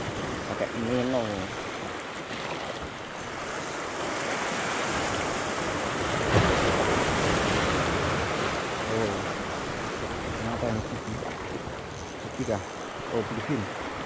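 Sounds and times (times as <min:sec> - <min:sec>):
waves washing against rocks: 0:00.0 - 0:14.0
wind on microphone: 0:00.0 - 0:14.0.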